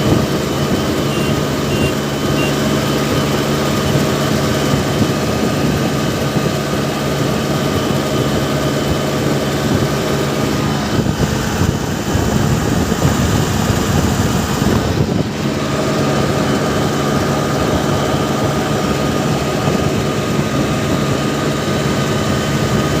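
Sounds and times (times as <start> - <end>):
diesel tractor engine running: 0.0 - 23.0.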